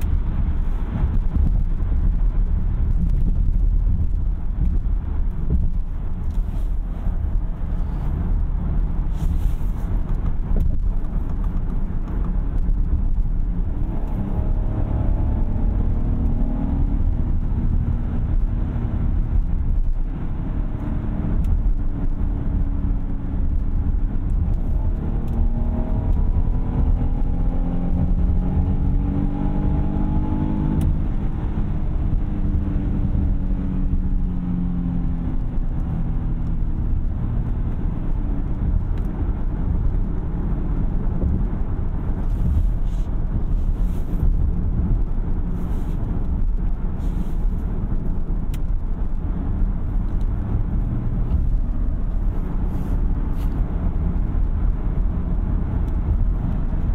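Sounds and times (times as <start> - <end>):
road and tyre rumble: 0.0 - 56.9.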